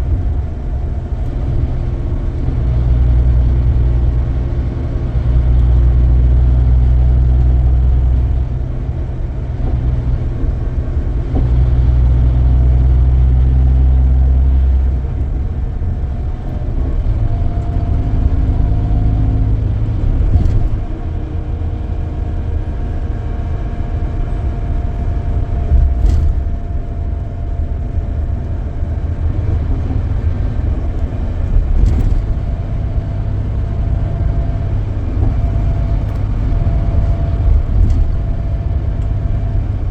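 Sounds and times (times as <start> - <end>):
coach engine drone: 0.0 - 39.9
road noise: 0.0 - 39.9.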